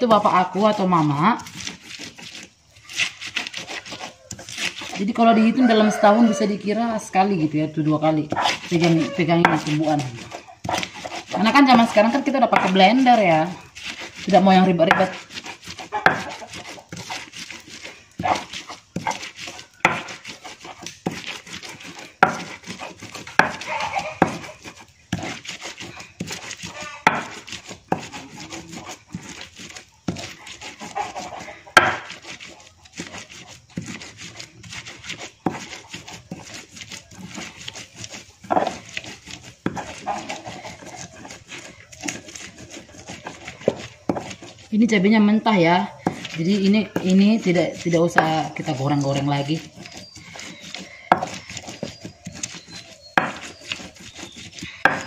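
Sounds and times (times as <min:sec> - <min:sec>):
stone grinding and scraping: 0:00.0 - 0:55.0
stone pestle pounding on mortar: 0:08.2 - 0:31.0, 0:31.7 - 0:55.0.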